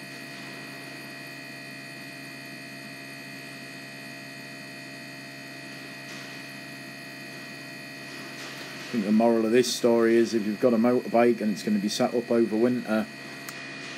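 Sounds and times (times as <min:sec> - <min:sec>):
constant high whine: 0:00.0 - 0:13.9
steady electrical hum: 0:00.0 - 0:13.9.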